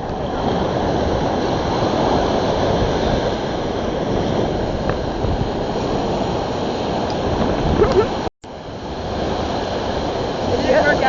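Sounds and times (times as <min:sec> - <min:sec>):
ocean surf washing ashore: 0:00.0 - 0:11.0
wind rumbling on microphone: 0:00.0 - 0:11.0.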